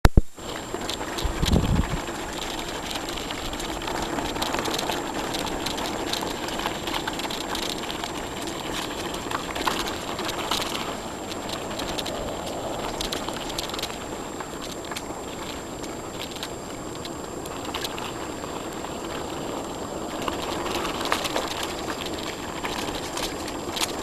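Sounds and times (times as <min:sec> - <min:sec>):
bicycle clicks and rattles: 0:00.4 - 0:24.0
bicycle tyres crunching on gravel: 0:00.4 - 0:24.0.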